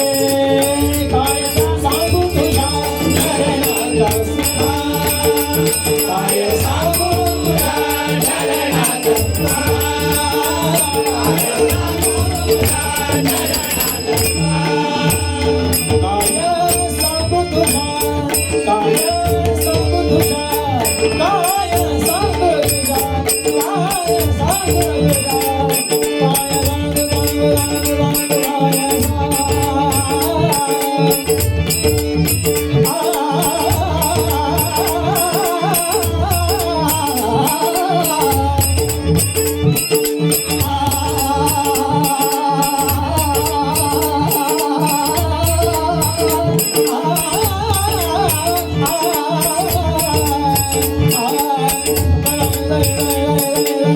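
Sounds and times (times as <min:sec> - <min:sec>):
metallic rhythm: 0:00.0 - 0:53.9
person singing: 0:00.0 - 0:53.9.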